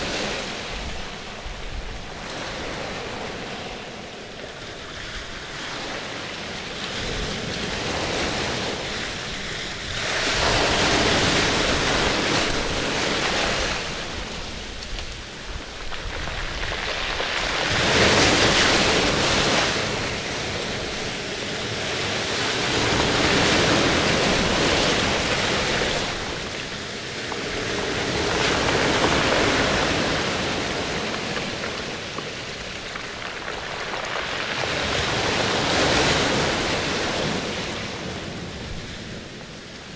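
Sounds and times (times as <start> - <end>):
rushing surf-like water: 0.0 - 39.9.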